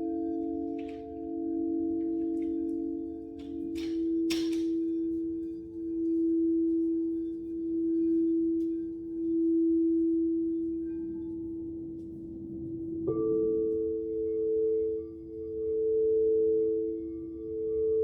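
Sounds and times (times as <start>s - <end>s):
crystal singing bowls ringing: 0.0s - 12.1s, 12.9s - 18.0s.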